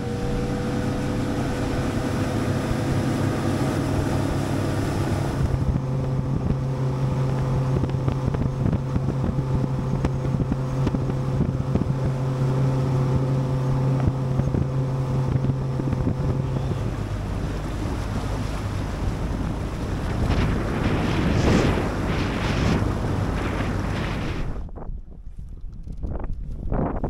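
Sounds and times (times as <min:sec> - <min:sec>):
water rushing past hull: 0:00.0 - 0:26.0
outboard motor hum: 0:00.0 - 0:27.0
wind on microphone: 0:00.0 - 0:27.0.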